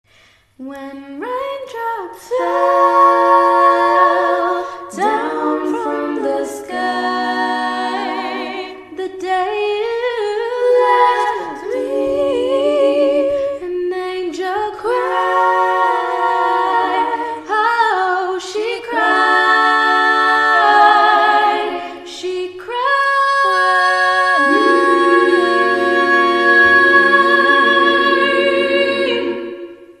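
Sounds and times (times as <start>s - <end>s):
woman singing a cappella harmony: 0.6s - 29.8s.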